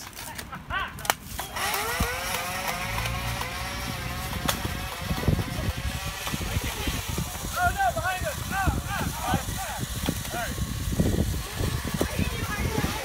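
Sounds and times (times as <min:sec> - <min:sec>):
motor humming: 0:01.4 - 0:13.0.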